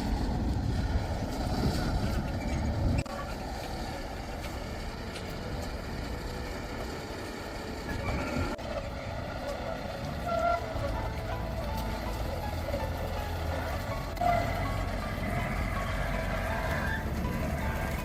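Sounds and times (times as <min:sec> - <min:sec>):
quiet engine hum: 0:00.0 - 0:18.0
truck engine rumbling: 0:00.0 - 0:18.0.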